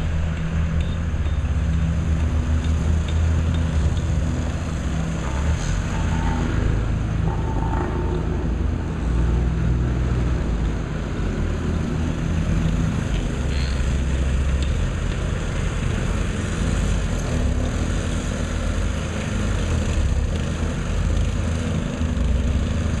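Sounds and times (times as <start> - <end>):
machinery engine rumbling: 0.0 - 23.0.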